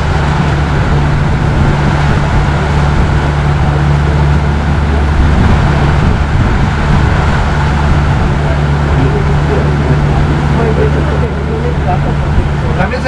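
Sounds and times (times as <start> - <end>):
boat motor humming: 0.0 - 13.0
water rushing: 0.0 - 13.0.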